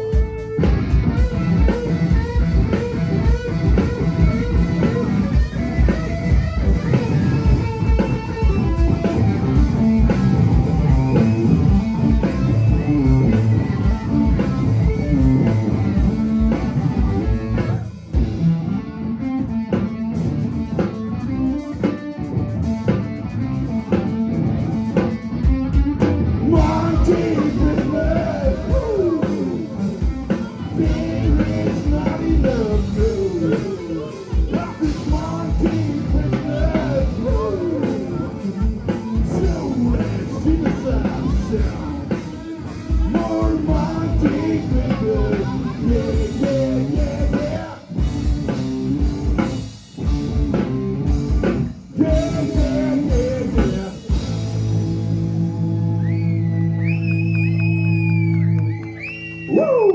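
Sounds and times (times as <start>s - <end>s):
drum kit: 0.0s - 58.4s
electric guitar: 0.0s - 59.9s.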